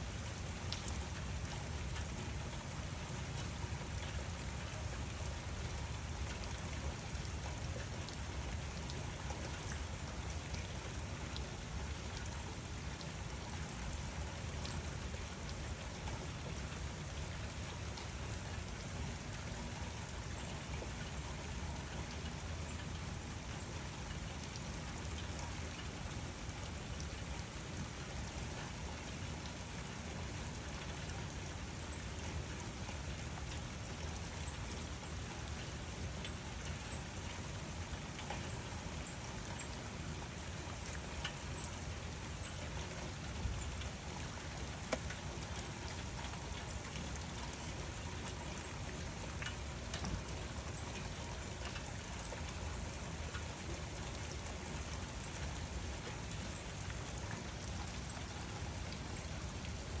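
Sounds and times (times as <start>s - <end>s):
rain falling: 0.0s - 60.0s.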